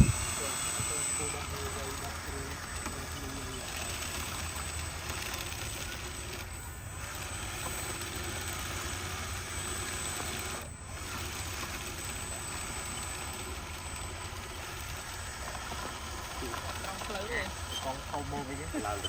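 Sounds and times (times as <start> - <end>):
toy truck motor running: 0.0 - 19.0.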